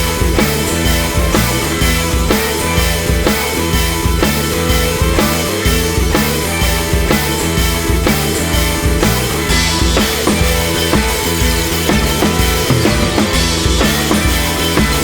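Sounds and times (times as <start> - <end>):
up-tempo rock music: 0.0 - 15.0.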